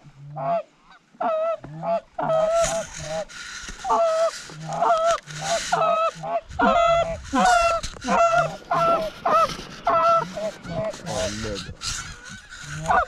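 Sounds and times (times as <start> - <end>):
goose honking and clucking: 0.2 - 13.0.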